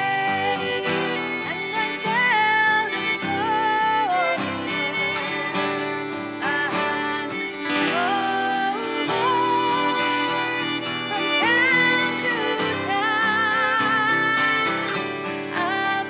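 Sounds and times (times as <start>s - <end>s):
acoustic guitar: 0.0s - 16.0s
woman singing folk melody: 0.0s - 16.0s.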